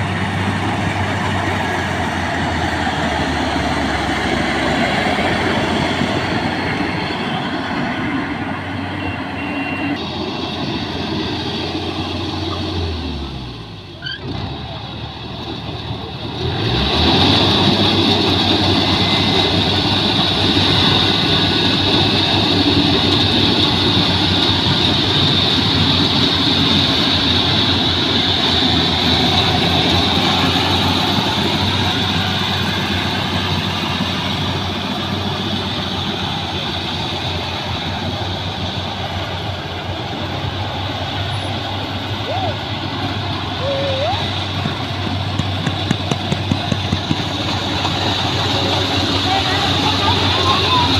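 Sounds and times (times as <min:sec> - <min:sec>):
combine harvester running with whine: 0:00.0 - 0:50.9.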